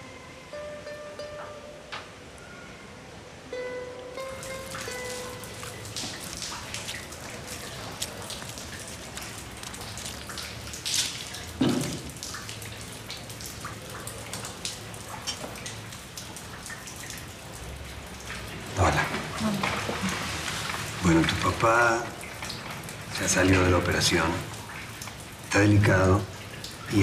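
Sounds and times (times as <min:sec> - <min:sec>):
steady rain hiss: 0:00.0 - 0:27.0
water dripping onto floor: 0:04.0 - 0:27.0.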